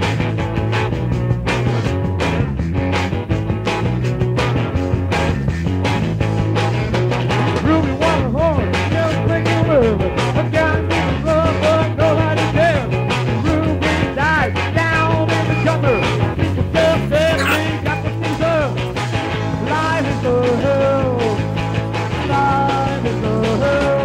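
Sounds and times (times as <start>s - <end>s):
rock music: 0.0s - 24.0s.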